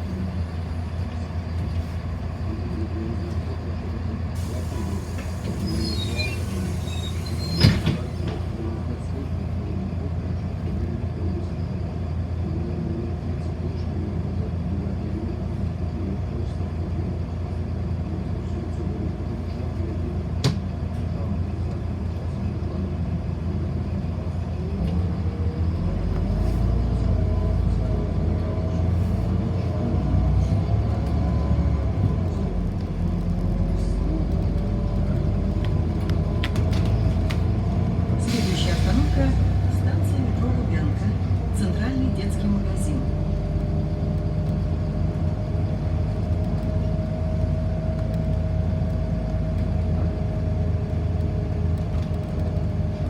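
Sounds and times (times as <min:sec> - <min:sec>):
bus drivetrain and road rumble: 0:00.0 - 0:53.0.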